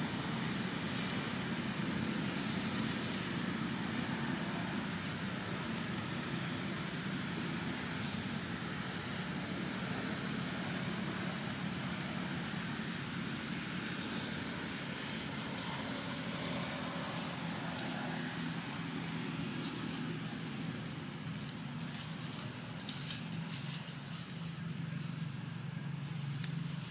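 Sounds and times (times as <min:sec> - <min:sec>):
distant road traffic: 0:00.0 - 0:26.9.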